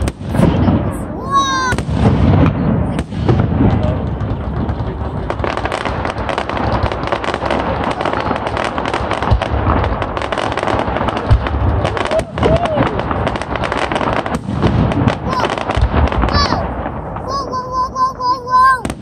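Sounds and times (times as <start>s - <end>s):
firework shells booming: 0.0s - 19.0s.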